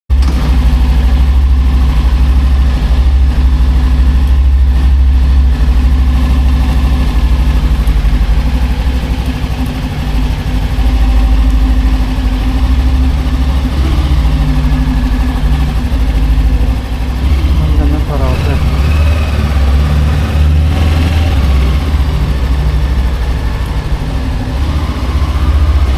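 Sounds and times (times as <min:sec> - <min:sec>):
motorcycle engine running: 0:00.1 - 0:25.9.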